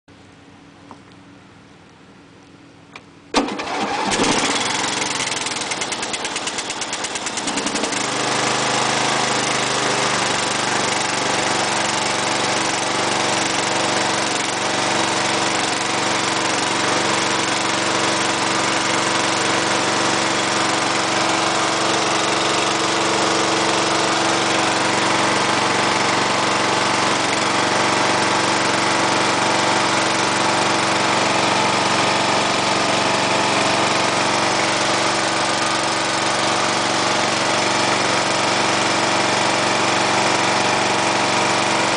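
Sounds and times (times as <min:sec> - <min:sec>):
mower engine starting and running: 0:03.3 - 0:41.9.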